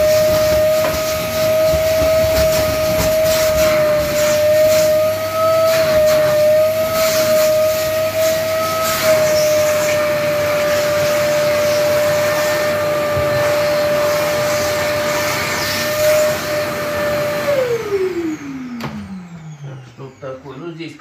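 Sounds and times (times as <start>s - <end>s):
vacuum cleaner whining: 0.0s - 21.0s
vacuum motor winding down: 0.0s - 21.0s.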